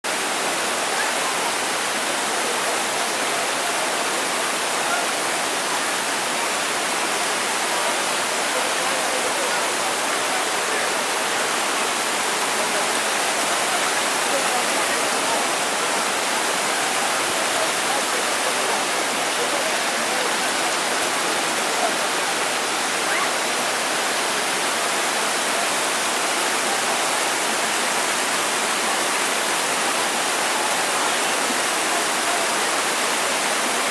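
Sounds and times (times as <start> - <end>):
river rushing over boulders: 0.1 - 33.9.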